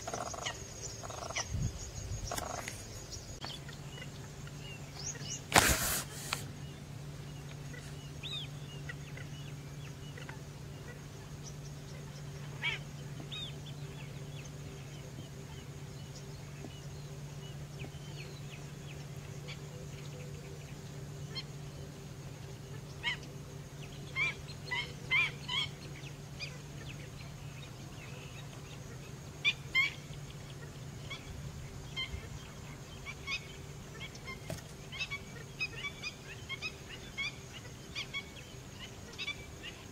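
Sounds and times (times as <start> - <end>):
steady low hum: 0.0 - 39.9
wetland birds calling: 0.0 - 39.9.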